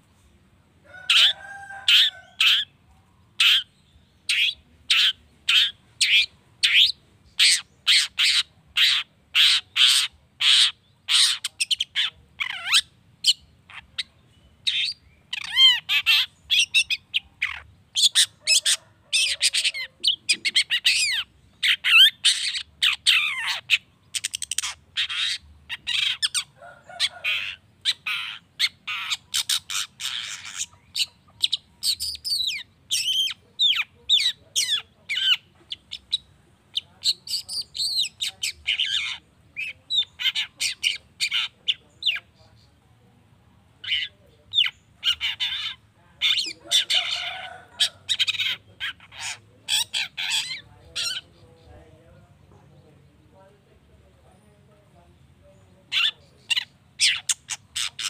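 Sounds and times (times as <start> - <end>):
shrike singing chattering song: 0.0 - 58.0.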